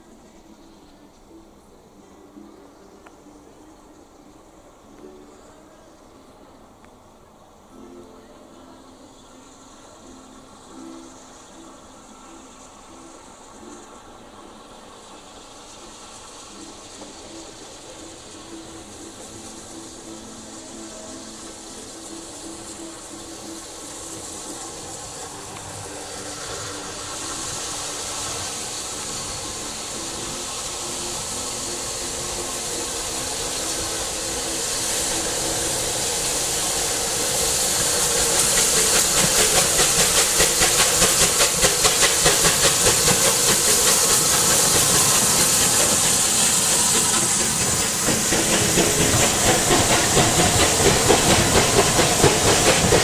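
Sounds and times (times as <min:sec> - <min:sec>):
steam locomotive hiss and exhaust beats: 0:00.0 - 0:53.0
train coaches rattling: 0:00.0 - 0:53.0.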